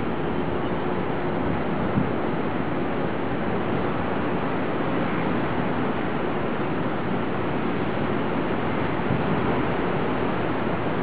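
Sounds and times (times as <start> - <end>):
city hum: 0.0 - 11.0.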